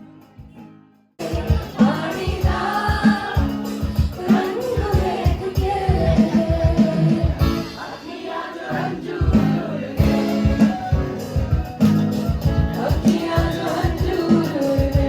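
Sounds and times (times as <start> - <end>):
song with guitar and singing: 0.4 - 15.0.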